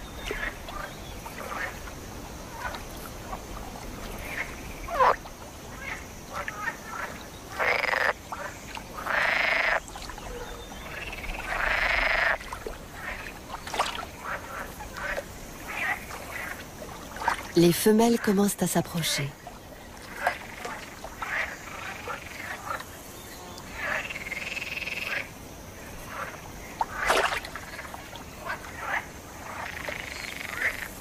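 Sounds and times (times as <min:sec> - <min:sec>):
frogs croaking: 0:00.0 - 0:31.0
loud frog calls: 0:00.0 - 0:31.0.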